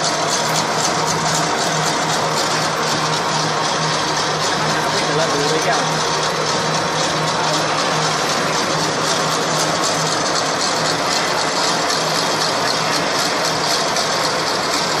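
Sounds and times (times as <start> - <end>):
rapid mechanical clatter: 0.0 - 15.0
steady motor hum: 0.0 - 15.0.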